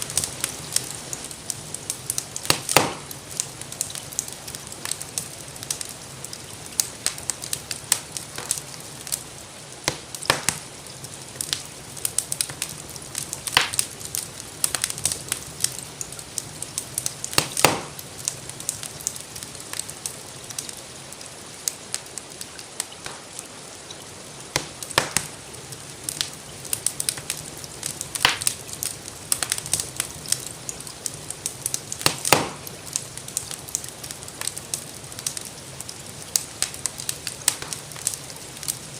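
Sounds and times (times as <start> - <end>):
rain hissing: 0.0 - 38.9
wood fire crackling: 0.0 - 38.9.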